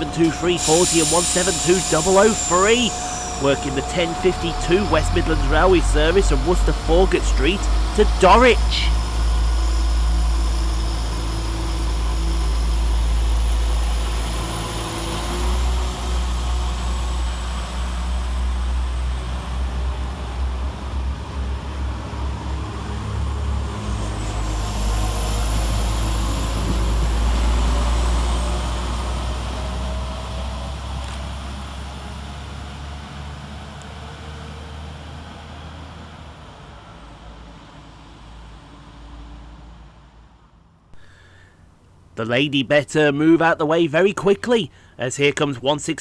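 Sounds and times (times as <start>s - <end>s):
diesel train engines rumbling: 0.0s - 46.0s.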